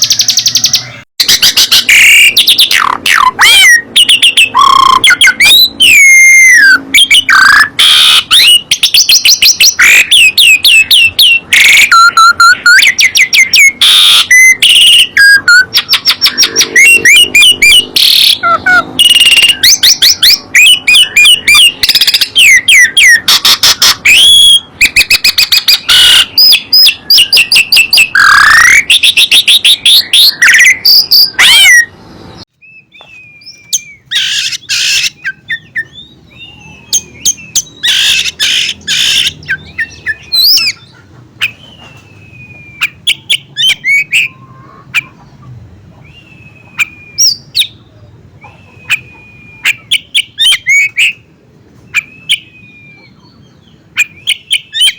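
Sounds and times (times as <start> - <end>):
bird chirps and whistles: 0.0 - 31.9, 32.6 - 44.4, 46.0 - 47.8, 48.4 - 54.9
songbirds warbling and trilling: 0.0 - 54.9.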